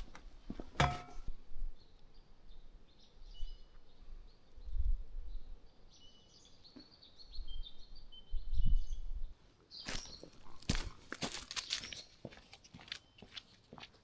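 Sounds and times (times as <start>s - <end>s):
small birds singing and chirping: 1.6s - 13.8s.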